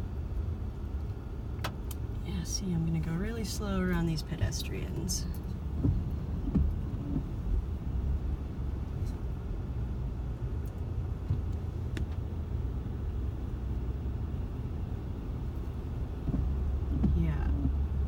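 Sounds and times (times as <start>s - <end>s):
car interior low rumble: 0.0s - 18.0s.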